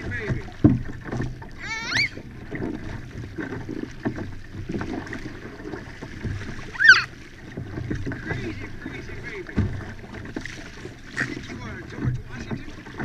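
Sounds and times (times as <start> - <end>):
water and wind rumble: 0.0 - 13.0.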